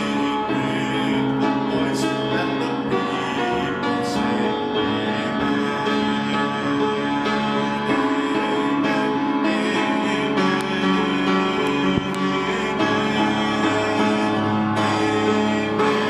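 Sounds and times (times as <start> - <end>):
instrumental music with held chords: 0.0 - 16.0.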